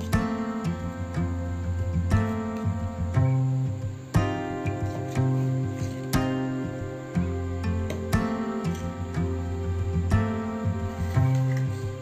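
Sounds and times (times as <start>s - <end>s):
plucked guitar music: 0.0s - 12.0s.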